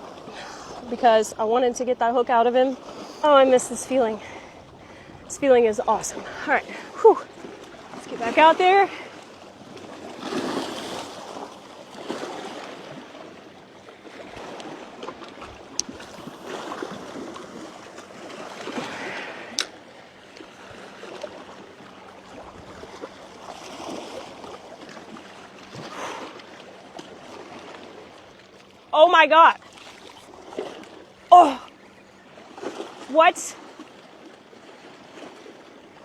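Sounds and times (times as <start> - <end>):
small waves washing: 0.0 - 36.0.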